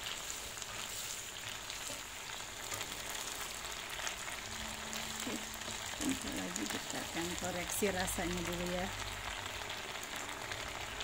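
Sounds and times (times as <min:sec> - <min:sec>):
stir-fry sizzling in a frying pan: 0:00.0 - 0:11.0.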